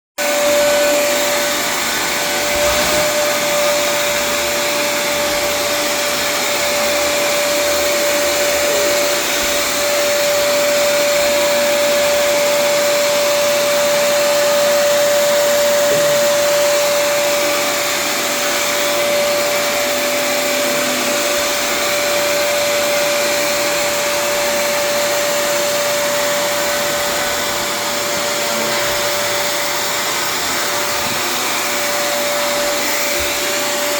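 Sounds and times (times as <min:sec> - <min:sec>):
vacuum cleaner running: 0:00.2 - 0:33.9.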